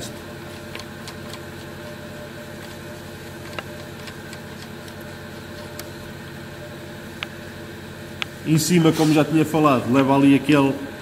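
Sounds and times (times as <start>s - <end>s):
steady hum of held tones: 0.0s - 11.0s.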